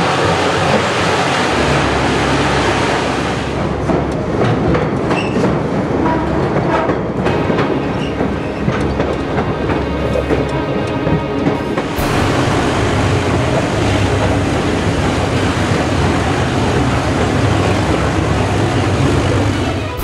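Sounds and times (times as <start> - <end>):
train wheels clacking on rails: 3.6 - 20.0.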